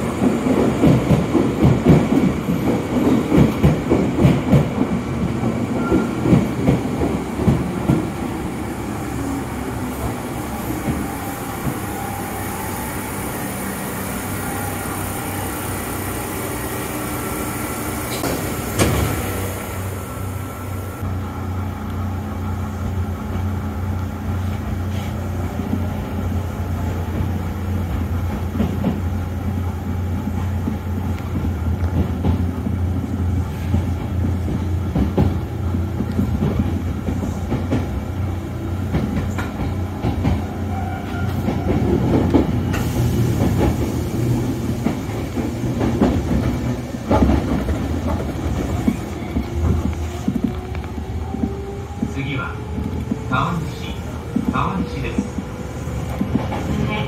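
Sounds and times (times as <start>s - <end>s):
train rumble and hum: 0.0s - 57.0s.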